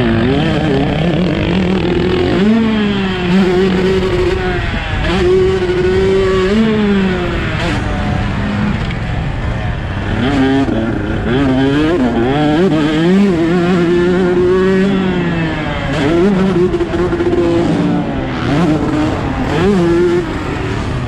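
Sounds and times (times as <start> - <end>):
two-stroke engine revving: 0.0 - 21.0.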